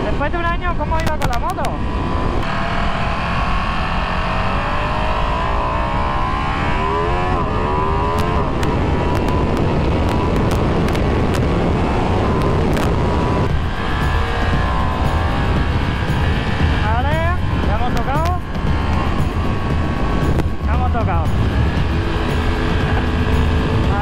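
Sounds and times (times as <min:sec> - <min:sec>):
motorcycle engine accelerating: 0:00.0 - 0:24.0
wind rushing: 0:00.0 - 0:24.0.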